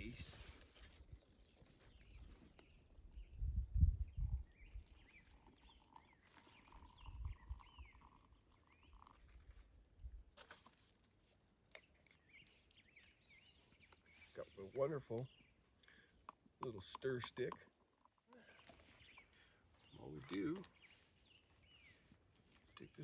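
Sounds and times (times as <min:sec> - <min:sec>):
birds chirping: 0:00.0 - 0:09.6, 0:11.7 - 0:23.0.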